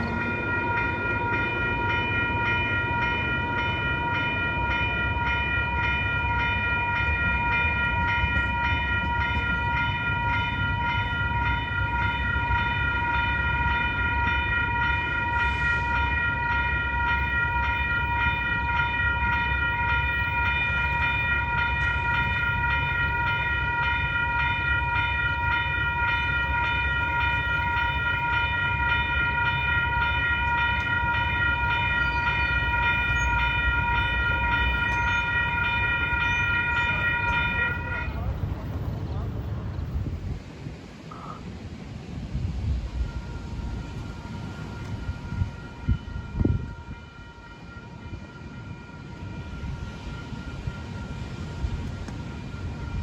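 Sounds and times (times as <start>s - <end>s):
idling train whine and rumble: 0.0s - 53.0s.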